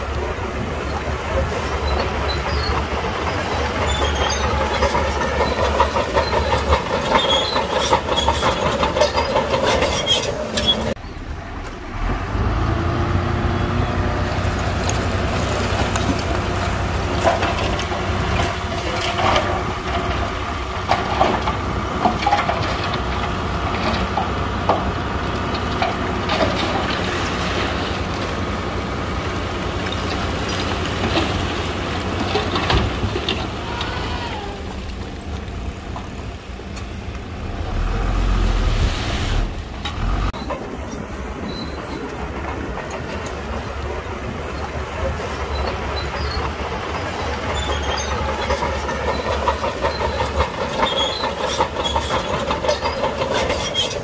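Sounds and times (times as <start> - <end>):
crawler dozer running: 0.0 - 54.0
diesel truck engine running: 0.0 - 54.0
tracks clanking: 0.0 - 54.0.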